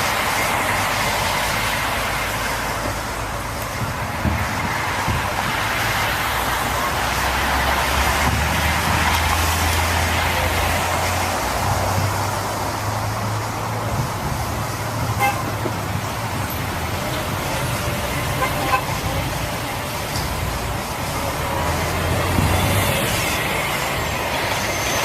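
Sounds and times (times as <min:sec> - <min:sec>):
hiss of passing cars: 0:00.0 - 0:25.0.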